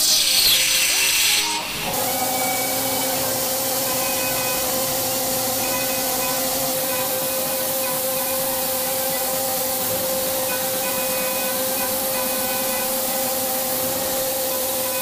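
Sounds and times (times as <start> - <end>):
coolant spray and cutting hiss: 0.0 - 15.0
spindle tone: 0.0 - 15.0.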